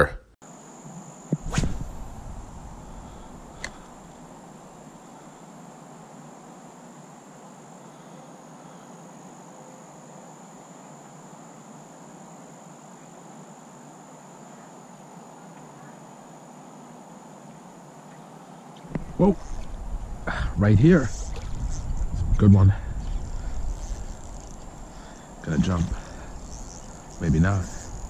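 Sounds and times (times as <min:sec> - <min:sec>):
high-pitched insect trill: 0:00.4 - 0:28.0.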